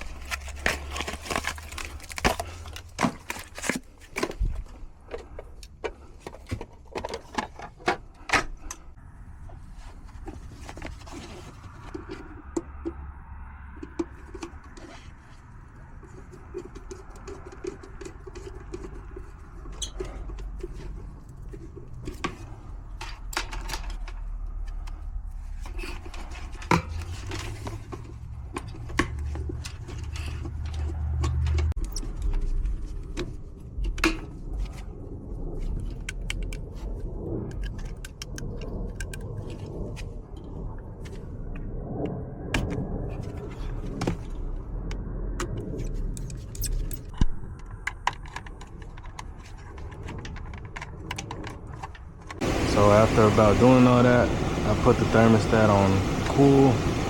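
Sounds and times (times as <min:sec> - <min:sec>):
tools and wires clicking and rattling: 0:00.0 - 0:09.0, 0:10.1 - 0:34.8, 0:35.6 - 0:41.2, 0:45.4 - 0:52.4
low hum: 0:08.6 - 0:57.0.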